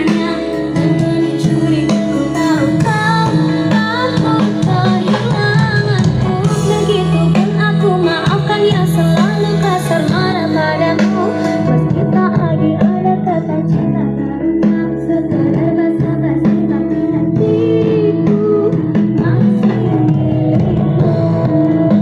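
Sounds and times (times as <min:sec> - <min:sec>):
pop song through small amplifier: 0:00.0 - 0:22.0.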